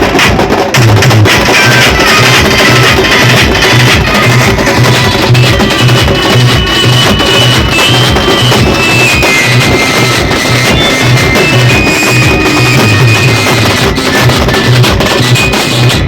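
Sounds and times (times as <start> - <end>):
frame drums played with sticks: 0.0 - 16.0
high held melody line: 1.3 - 16.0.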